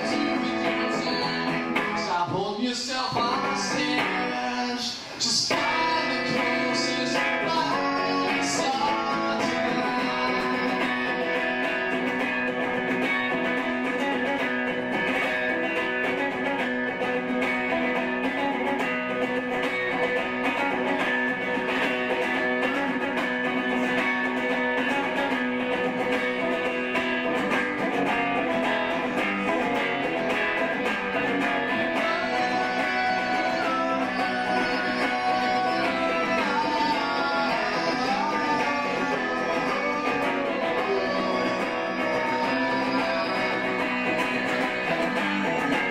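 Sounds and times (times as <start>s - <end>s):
electric guitar strummed chords: 0.0s - 45.9s.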